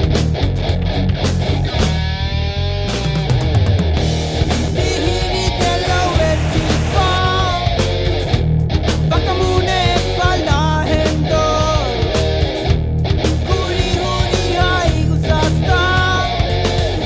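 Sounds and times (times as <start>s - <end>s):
rock music with guitar: 0.0s - 17.0s.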